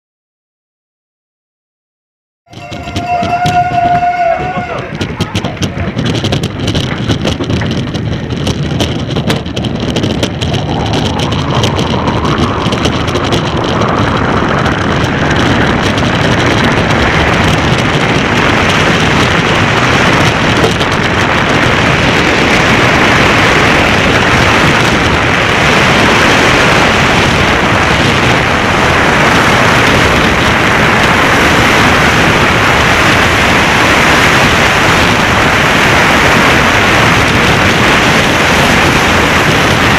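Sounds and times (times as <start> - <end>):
bobsleigh rushing down ice track: 2.5 - 39.9.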